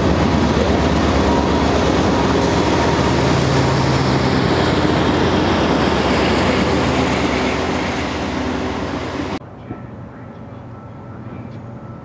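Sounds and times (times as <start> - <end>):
locomotive engine drone: 0.0 - 12.0
train wheels rumbling on rail: 0.0 - 12.0.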